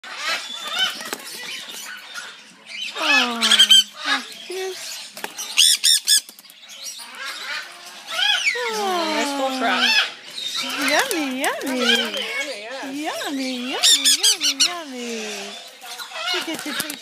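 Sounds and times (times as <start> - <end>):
baby parrots begging calls: 2.0 - 6.3, 7.0 - 17.0.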